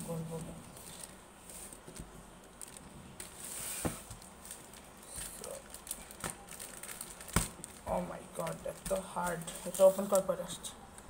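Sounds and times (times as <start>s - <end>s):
package rustling: 0.7s - 10.3s.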